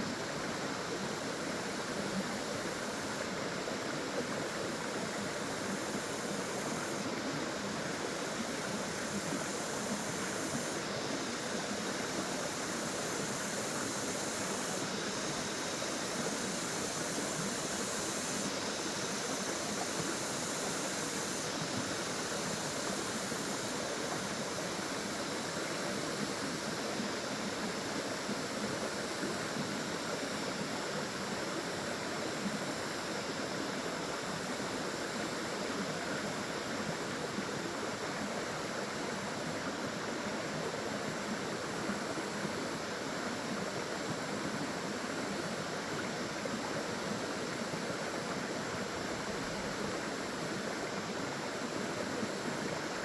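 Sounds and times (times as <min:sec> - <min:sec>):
water rushing and splashing: 0:00.0 - 0:53.0.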